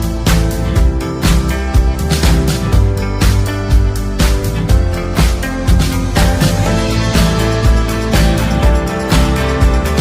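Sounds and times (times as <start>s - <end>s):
upbeat music with guitar: 0.0s - 10.0s.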